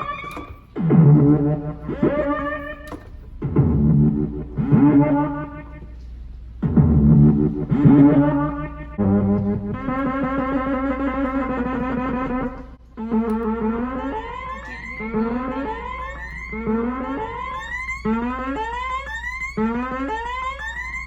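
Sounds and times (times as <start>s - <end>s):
buzzy synthesizer note: 0.0s - 6.0s, 6.6s - 21.0s.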